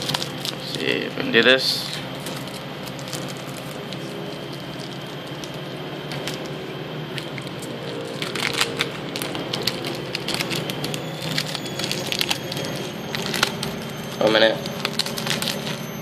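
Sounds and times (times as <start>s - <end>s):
foil wrapper crinkling: 0.0s - 16.0s
steady low hum: 0.0s - 16.0s.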